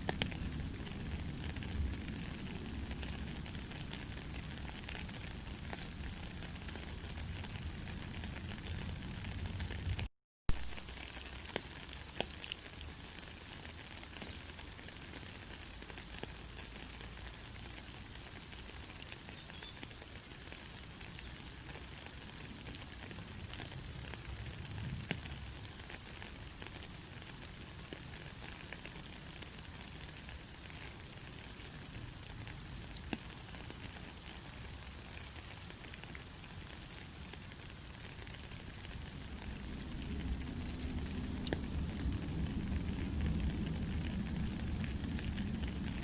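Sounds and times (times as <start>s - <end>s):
faint scattered crackles: 0.0s - 46.0s.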